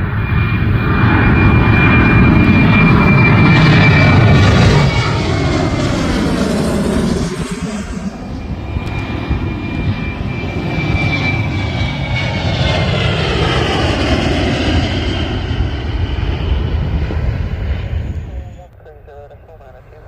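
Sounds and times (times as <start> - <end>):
airliner engines passing: 0.0 - 20.0.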